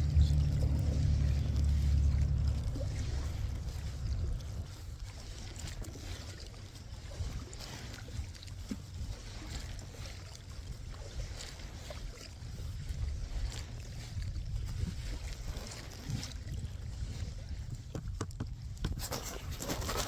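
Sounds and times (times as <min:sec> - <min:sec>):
paddle splashing water: 0:00.0 - 0:20.0
wind on microphone: 0:00.0 - 0:20.0.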